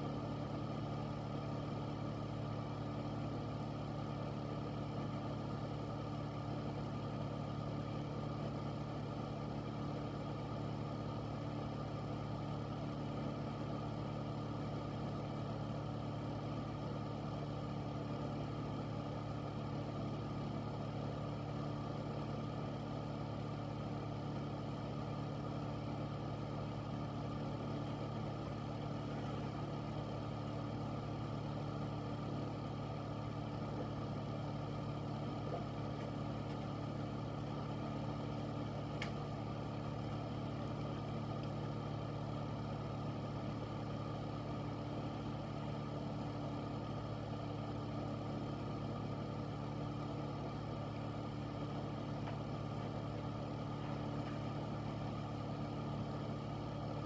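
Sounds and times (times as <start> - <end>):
air filter fan running: 0.0 - 57.0.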